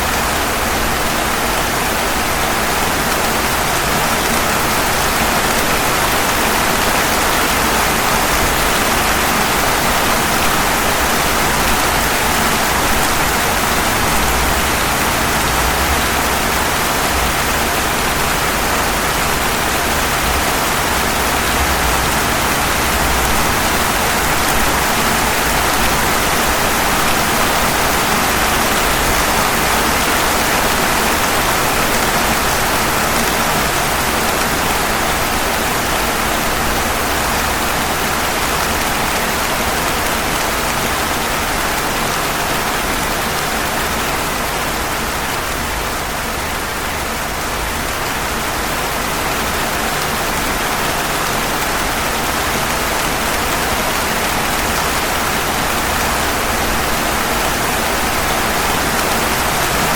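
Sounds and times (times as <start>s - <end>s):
rain falling on pavement: 0.0s - 59.9s.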